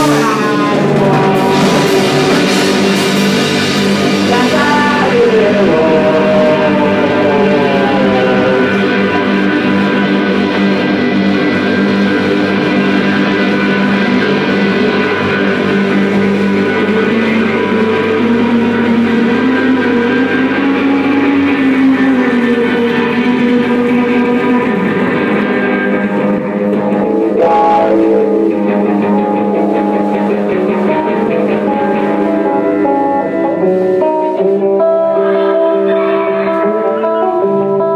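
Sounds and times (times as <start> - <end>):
rock band playing live: 0.0 - 37.9.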